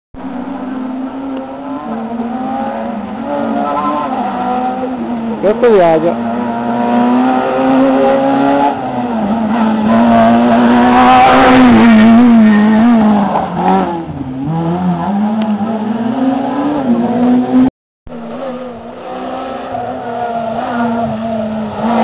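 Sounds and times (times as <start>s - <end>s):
rally car engine revving: 0.2s - 22.0s.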